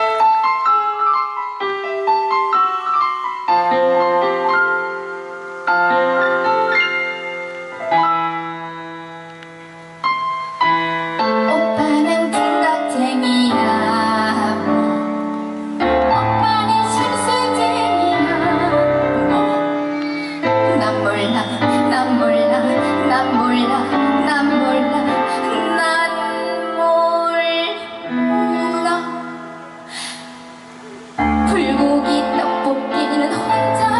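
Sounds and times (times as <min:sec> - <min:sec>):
piano playing: 0:00.0 - 0:33.9.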